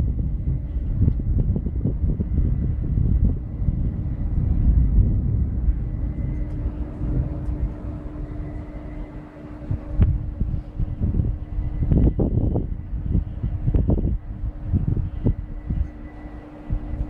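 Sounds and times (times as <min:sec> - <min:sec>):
faint steady hum: 0:00.0 - 0:17.0
thunder rumbling: 0:00.0 - 0:17.0.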